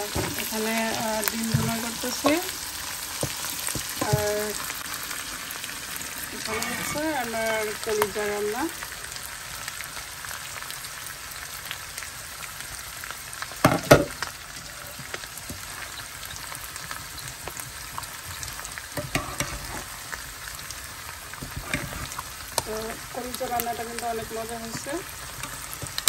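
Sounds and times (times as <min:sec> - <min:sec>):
curry sizzling and bubbling: 0:00.0 - 0:26.0.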